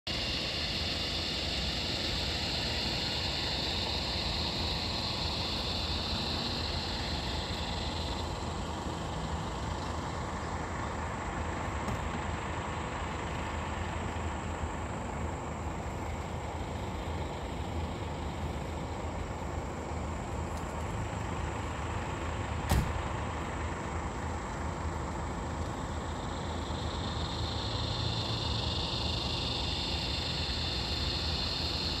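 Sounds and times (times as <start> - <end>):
high hiss: 0.1 - 23.6, 25.4 - 32.0
distant engines rumbling: 0.1 - 32.0.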